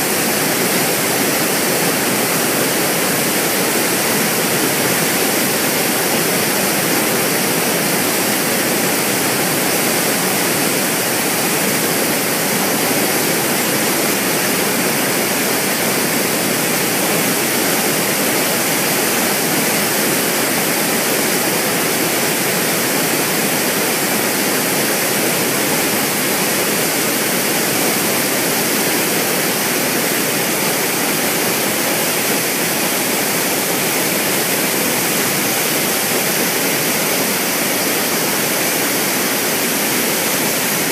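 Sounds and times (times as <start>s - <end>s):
water rushing from a dam: 0.0s - 40.9s.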